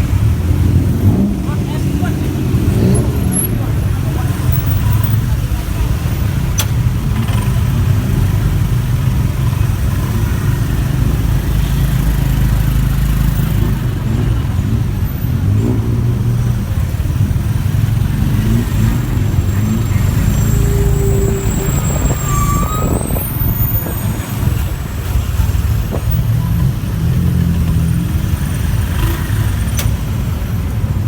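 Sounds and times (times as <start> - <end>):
motorbike engine revving: 0.0 - 31.0
road and wind noise: 0.0 - 31.0.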